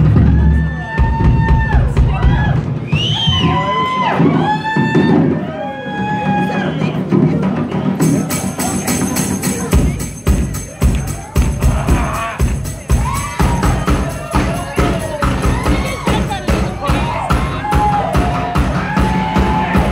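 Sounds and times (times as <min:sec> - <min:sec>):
audience whooping and shouting: 0:00.0 - 0:07.1, 0:11.1 - 0:19.9
drum kit solo: 0:00.0 - 0:19.9.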